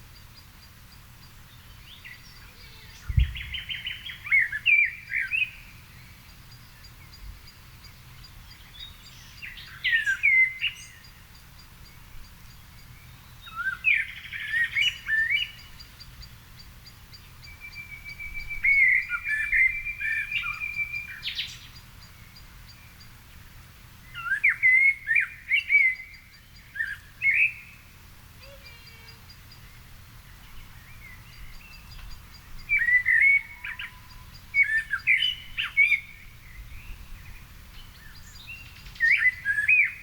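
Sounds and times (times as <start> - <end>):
songbird warbling song: 0.0 - 40.0.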